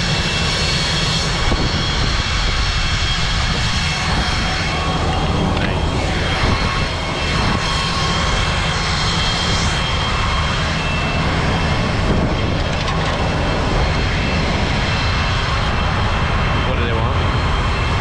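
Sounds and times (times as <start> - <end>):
loud engine rumble and whine: 0.0 - 18.0.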